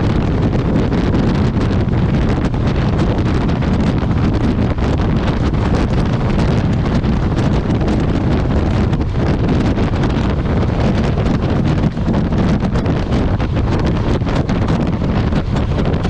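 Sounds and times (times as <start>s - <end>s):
motorcycle and road rumble: 0.0s - 16.0s
wind buffeting microphone: 0.0s - 16.0s.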